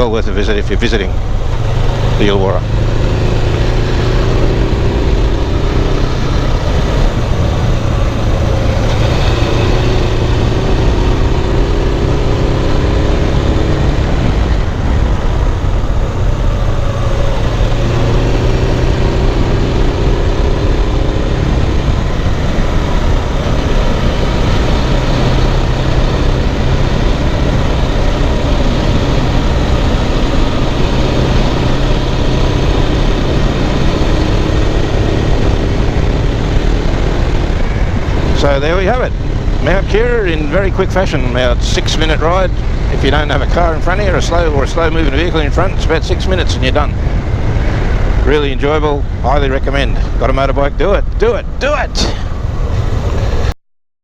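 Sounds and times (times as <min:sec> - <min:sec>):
motorcycle engine running: 0:00.0 - 0:53.5
wind and road noise: 0:00.0 - 0:53.6.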